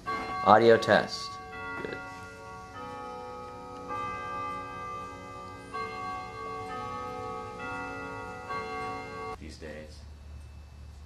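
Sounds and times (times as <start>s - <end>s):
slow melody of ringing notes: 0.0s - 9.5s.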